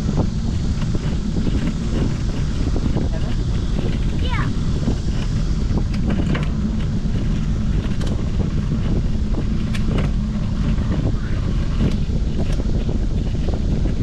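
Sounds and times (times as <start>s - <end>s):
wind buffeting microphone: 0.0s - 14.0s
light clicks and rattles: 0.1s - 14.0s.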